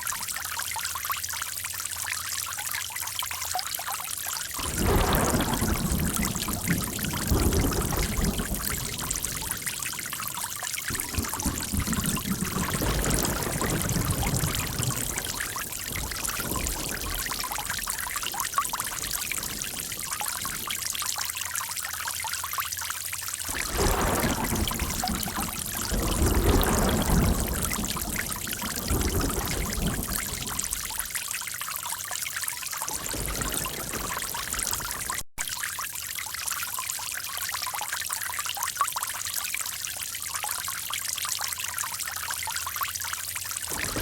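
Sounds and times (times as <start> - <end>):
deep water gushing: 0.0 - 35.6, 43.3 - 44.0
water trickling and gurgling: 0.0 - 44.0.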